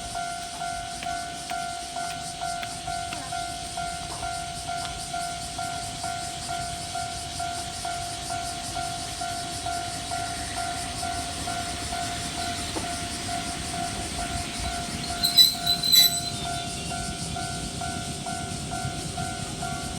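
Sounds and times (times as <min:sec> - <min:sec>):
electric train high tone: 0:00.0 - 0:19.9.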